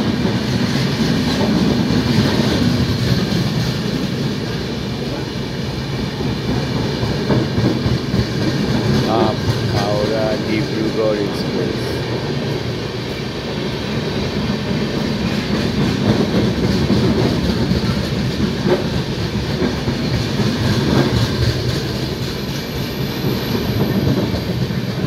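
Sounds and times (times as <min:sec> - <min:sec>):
train wheels rumbling on rails: 0:00.0 - 0:25.0
wheels clacking over rail joints: 0:00.0 - 0:25.0.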